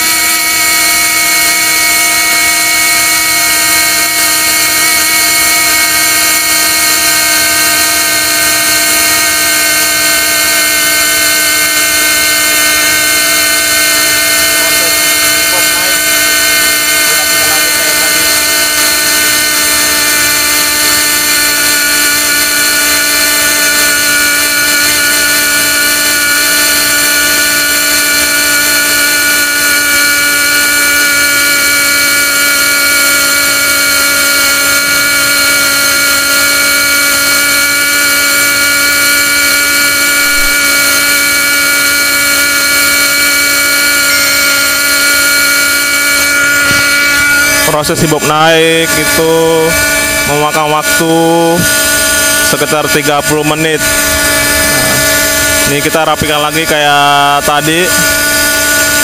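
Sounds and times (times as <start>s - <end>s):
winch machine whine: 0.0s - 59.0s.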